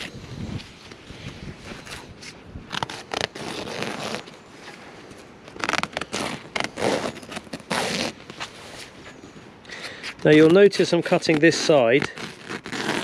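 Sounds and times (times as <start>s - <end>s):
cloth rustling: 0.0s - 13.0s.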